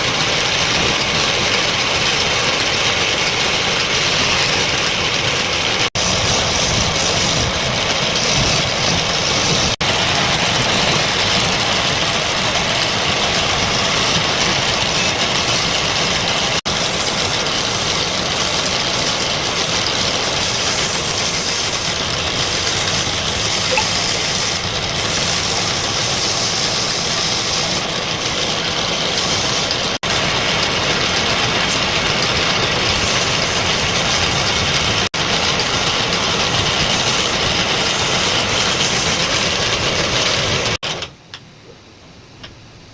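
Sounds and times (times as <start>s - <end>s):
wood lathe running: 0.0s - 40.8s.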